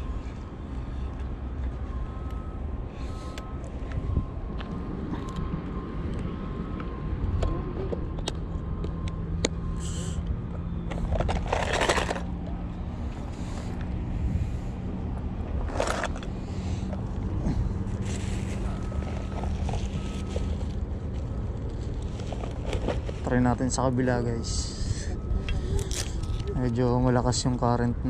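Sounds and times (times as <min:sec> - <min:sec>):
low motor drone: 0:00.0 - 0:28.0.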